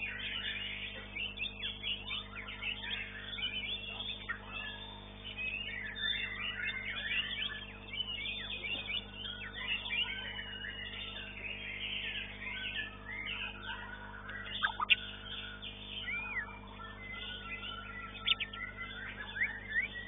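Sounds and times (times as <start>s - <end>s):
songbirds whistling and trilling: 0.0s - 20.0s.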